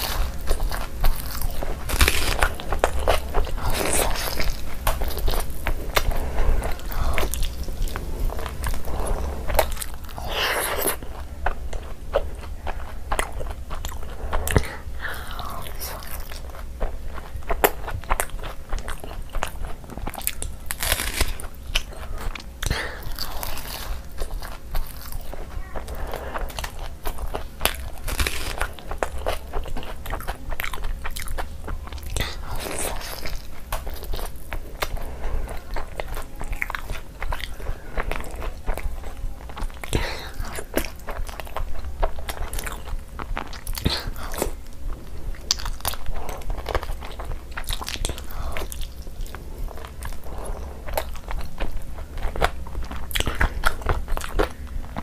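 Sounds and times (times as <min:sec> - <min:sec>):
low hum: 0:00.0 - 0:55.0
wet sticky chewing: 0:00.0 - 0:55.0.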